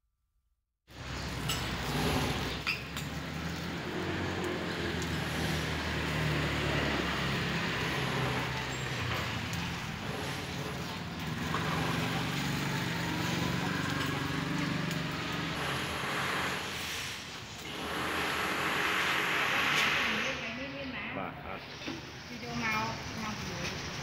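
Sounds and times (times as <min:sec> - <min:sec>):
road traffic engines: 0:00.9 - 0:24.0.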